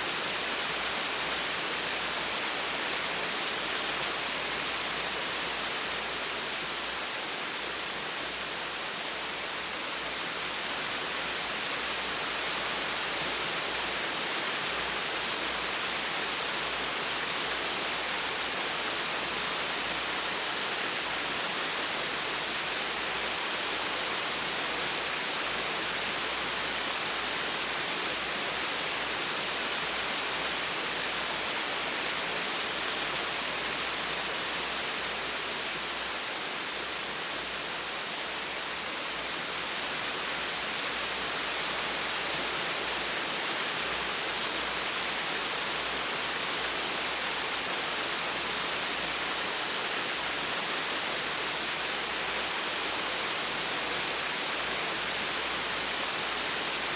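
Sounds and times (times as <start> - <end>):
small waterfall splashing: 0.0 - 56.9.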